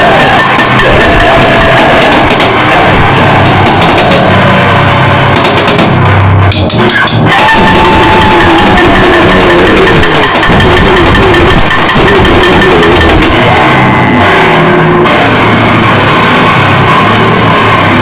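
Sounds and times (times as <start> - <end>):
distorted harsh noise music: 0.0 - 18.0.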